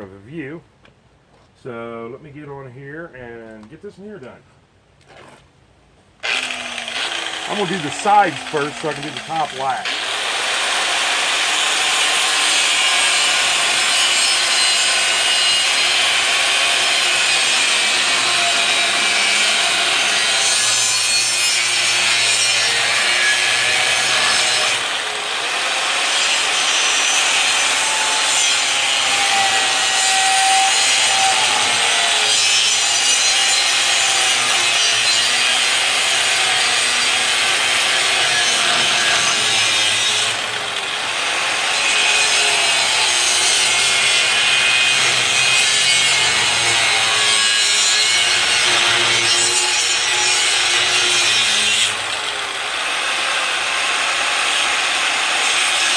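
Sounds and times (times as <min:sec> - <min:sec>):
angle grinder cutting steel: 0:06.2 - 0:55.9.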